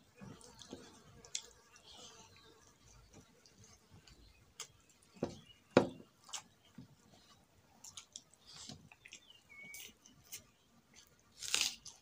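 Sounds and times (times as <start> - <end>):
chewing: 0.2 - 5.2, 6.2 - 12.0.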